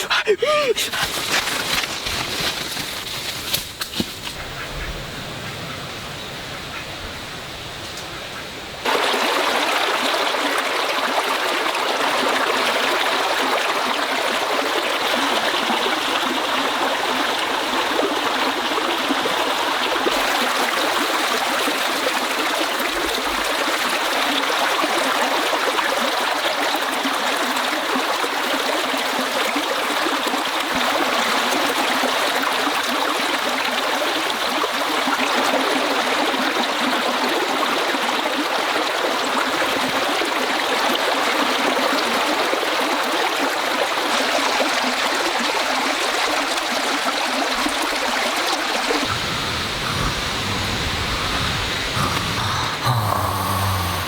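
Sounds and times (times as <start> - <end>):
stream water rushing and gurgling: 0.8 - 54.0.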